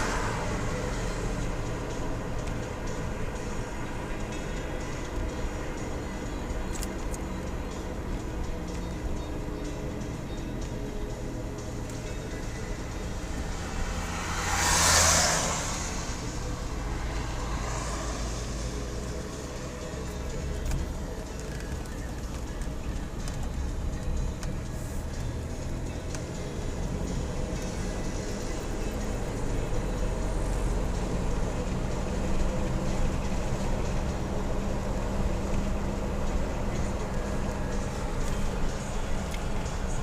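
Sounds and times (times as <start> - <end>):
car engine and road hum: 0.0 - 40.0
passing vehicle: 0.0 - 40.0.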